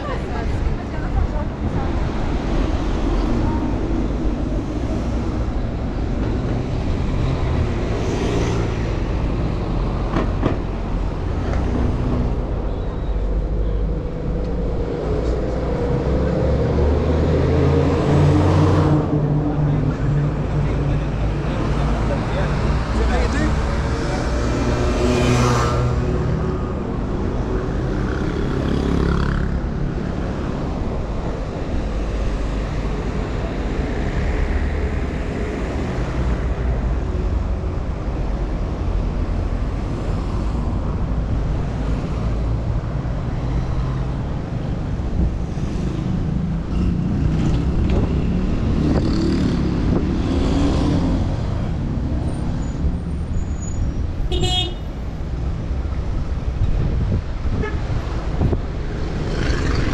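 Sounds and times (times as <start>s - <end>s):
cars driving past: 0.0s - 59.9s.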